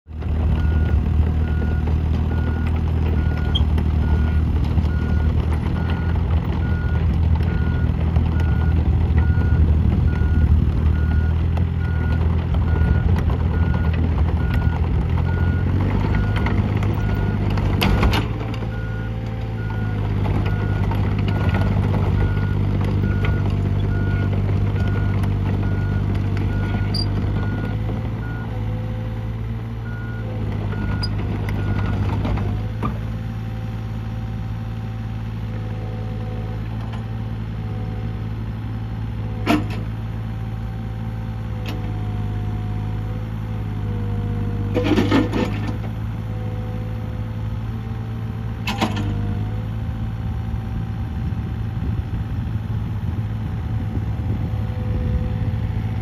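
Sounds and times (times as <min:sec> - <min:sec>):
diesel excavator engine running: 0:00.1 - 0:56.0.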